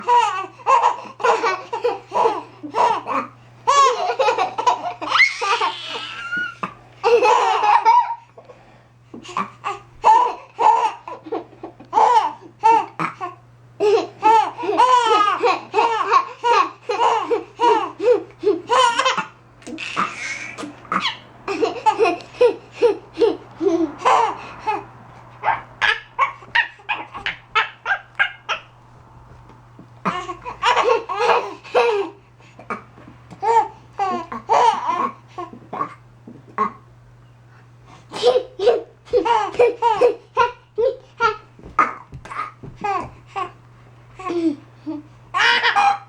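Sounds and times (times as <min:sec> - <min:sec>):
baby laughing: 0:00.0 - 0:08.4, 0:09.3 - 0:28.8, 0:30.0 - 0:36.0, 0:38.1 - 0:43.6, 0:44.2 - 0:46.0.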